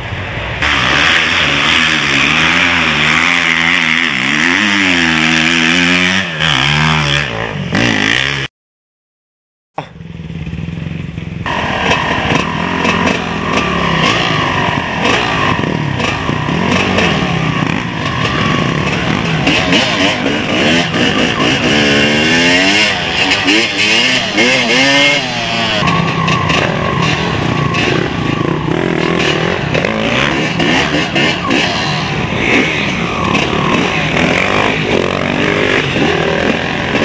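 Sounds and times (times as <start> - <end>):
dirt bike engines revving: 0.0 - 8.5, 9.8 - 37.0.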